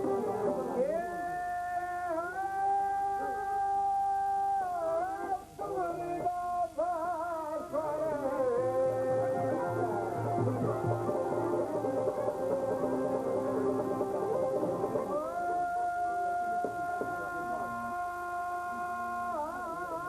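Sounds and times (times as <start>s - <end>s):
person singing folk song: 0.0s - 20.0s.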